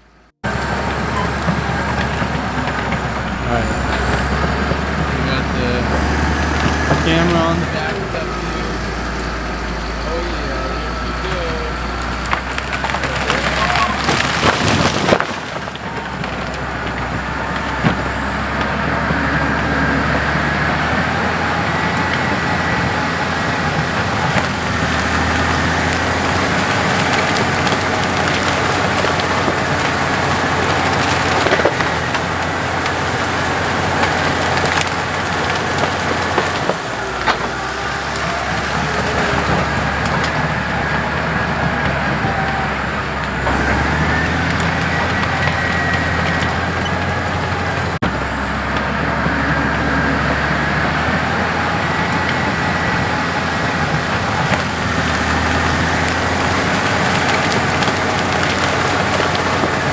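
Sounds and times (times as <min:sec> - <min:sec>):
bulldozer diesel engine running: 0:00.0 - 0:59.9
wood cracking and snapping: 0:00.4 - 0:59.9.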